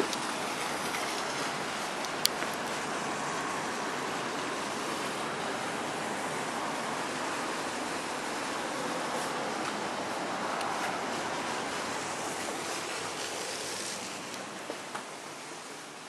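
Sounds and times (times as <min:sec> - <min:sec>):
rushing city ambience: 0:00.0 - 0:16.0.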